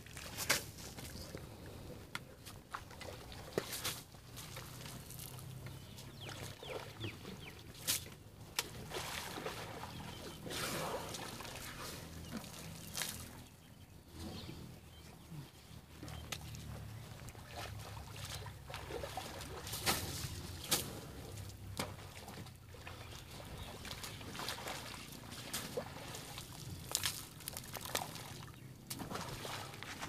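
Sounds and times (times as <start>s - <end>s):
muddy water splashing and trickling: 2.4s - 13.7s, 15.9s - 30.0s.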